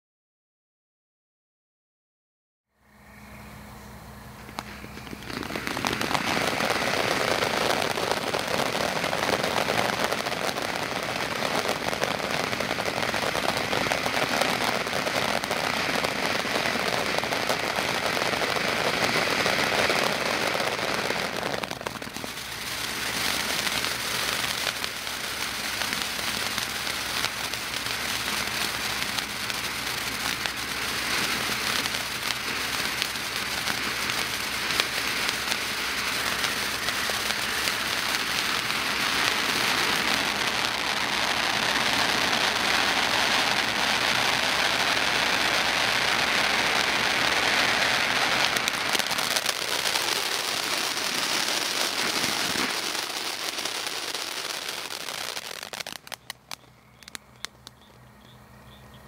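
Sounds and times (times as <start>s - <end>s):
firework fountain hissing and crackling: 2.8s - 59.0s.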